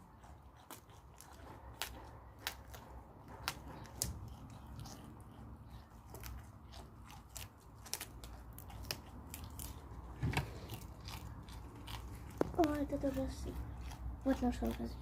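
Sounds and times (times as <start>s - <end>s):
goats chewing food crunching: 0.0s - 15.0s.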